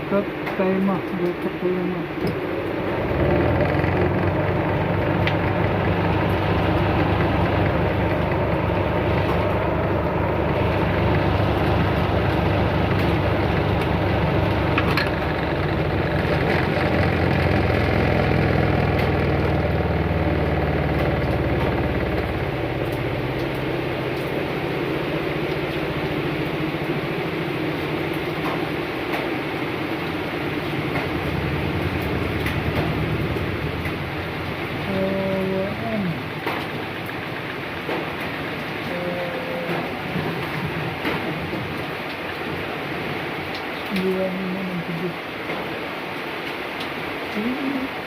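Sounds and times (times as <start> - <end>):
washing machine motor humming: 2.0 - 44.9.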